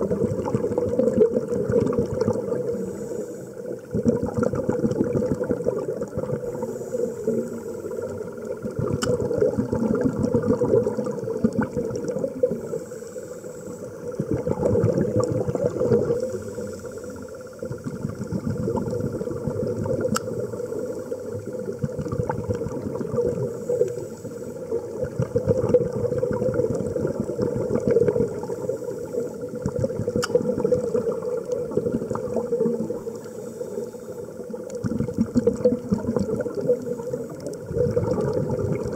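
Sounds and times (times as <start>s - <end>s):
underwater bubbling rumble: 0.0s - 38.9s.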